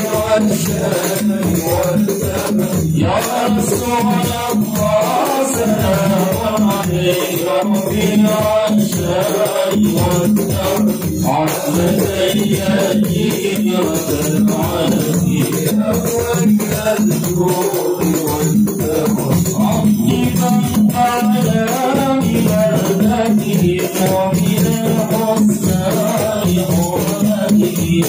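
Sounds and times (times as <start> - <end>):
men chanting a devotional song: 0.0 - 28.0
steady percussion beat: 0.0 - 28.0.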